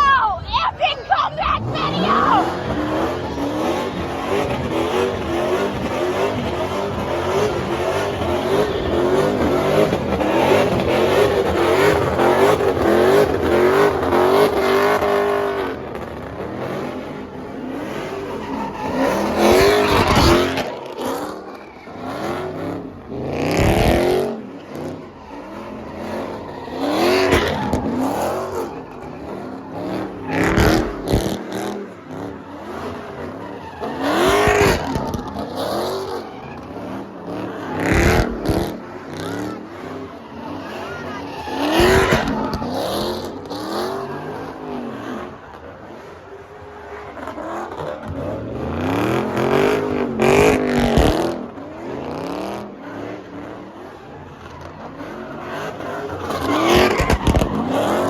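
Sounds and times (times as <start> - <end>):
tires squealing: 0.0 - 58.0
car engine revving: 1.4 - 58.0.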